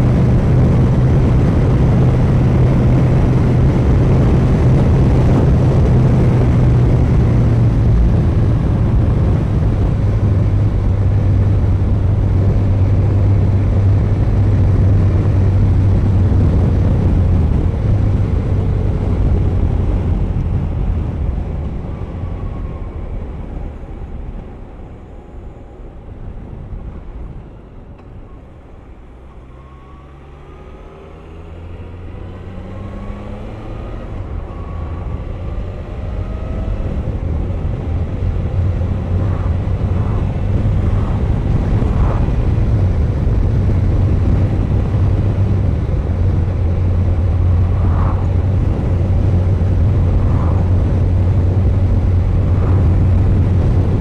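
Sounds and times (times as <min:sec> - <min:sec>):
wind rush: 0:00.0 - 0:24.8, 0:30.8 - 0:54.0.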